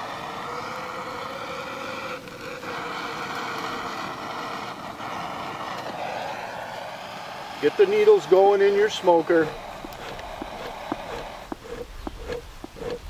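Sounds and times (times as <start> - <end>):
propane torch hissing: 0.0 - 13.0.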